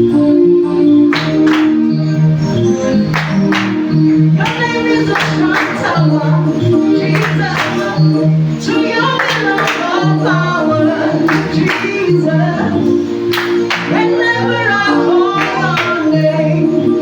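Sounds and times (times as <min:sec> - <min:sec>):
sustained low instrumental notes: 0:00.0 - 0:17.0
voices singing worship music: 0:01.0 - 0:17.0.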